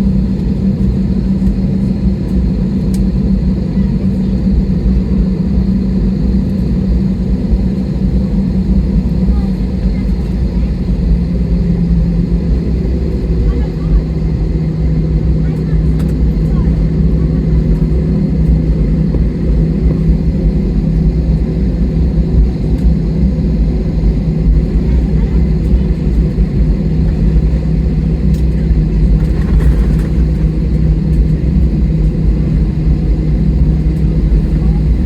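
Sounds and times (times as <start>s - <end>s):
constant low hum: 0.0s - 35.0s
jet engines idling in cabin: 0.0s - 35.0s.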